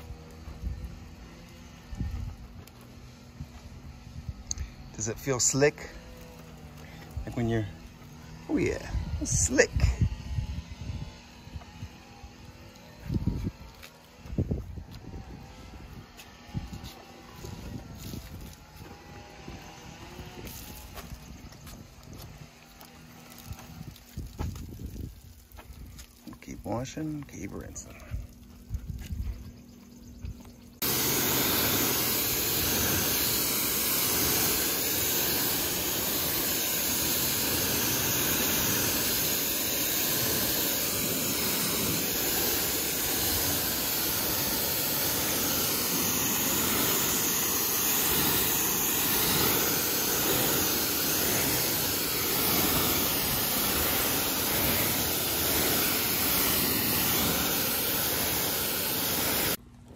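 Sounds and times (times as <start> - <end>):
pressure washer spraying water: 4.5 - 10.0, 11.3 - 27.8, 30.8 - 59.6.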